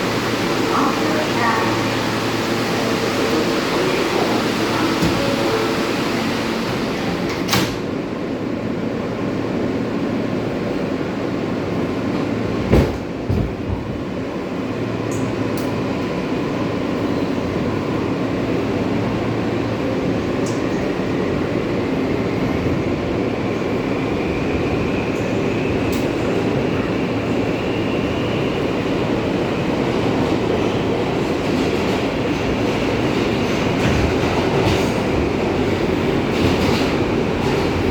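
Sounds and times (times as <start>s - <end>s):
subway car rumble: 0.0s - 37.9s.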